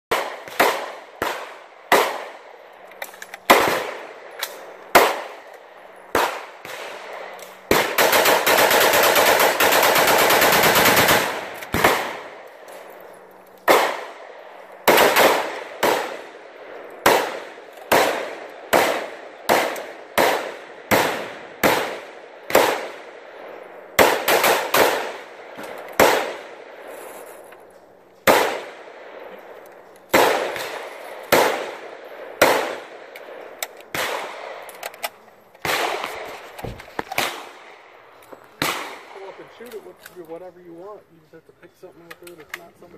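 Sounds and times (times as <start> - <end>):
rifle shots with echo: 0.1 - 13.0, 13.6 - 26.9, 28.2 - 36.5, 37.1 - 40.0.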